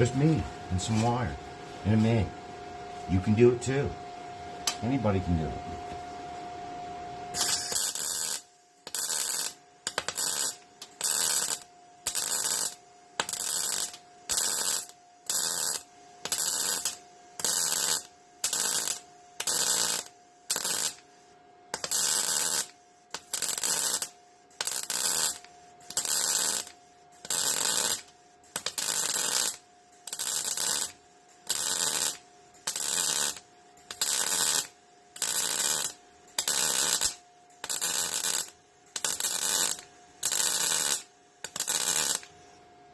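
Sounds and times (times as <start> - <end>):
steady hum: 0.0 - 42.9
welding arc crackling: 7.4 - 21.1, 21.7 - 42.4.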